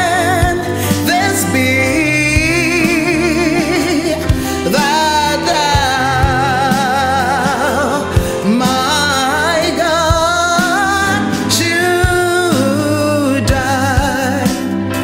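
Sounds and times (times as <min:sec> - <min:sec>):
instrumental accompaniment with soft beat: 0:00.0 - 0:15.0
woman singing a gospel hymn: 0:00.0 - 0:15.0.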